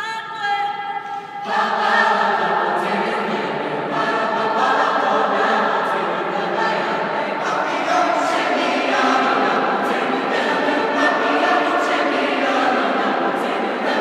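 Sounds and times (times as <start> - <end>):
choir singing a cappella: 1.0 - 14.0.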